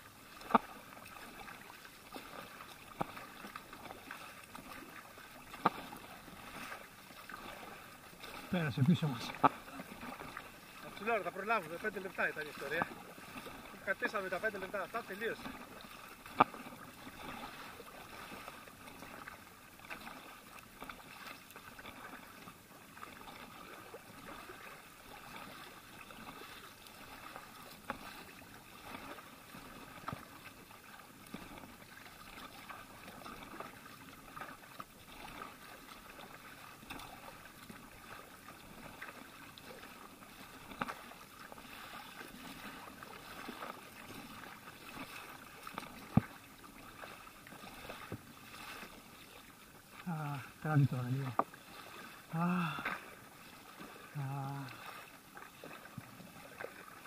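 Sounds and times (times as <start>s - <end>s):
paddle strokes splashing water: 0.0s - 57.0s
water rushing along hull: 0.0s - 57.0s.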